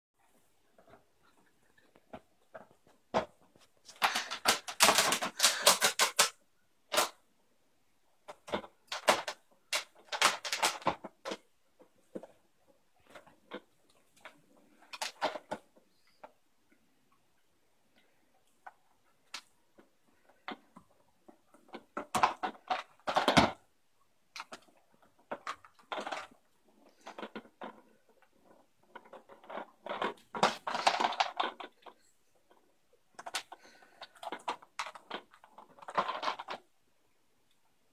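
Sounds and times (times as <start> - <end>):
plastic puzzle feeder rattling: 0.8 - 7.2, 8.2 - 12.4, 13.0 - 16.3, 18.0 - 23.7, 24.3 - 36.7.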